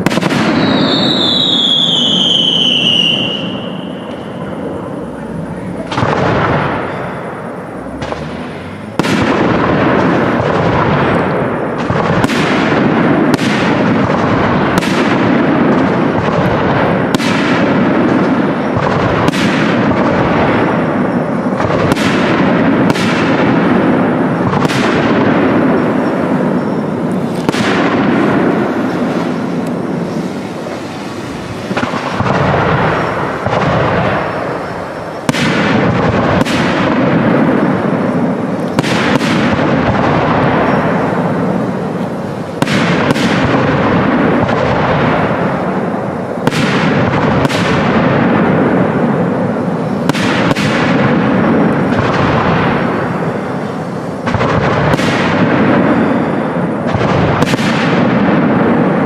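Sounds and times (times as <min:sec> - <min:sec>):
firework shells bursting: 0:00.0 - 0:59.0
rolling echo and rumble: 0:00.0 - 0:59.0.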